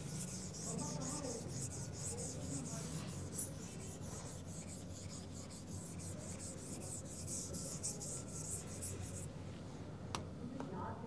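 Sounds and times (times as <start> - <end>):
pen scratching on paper: 0.0 - 9.3.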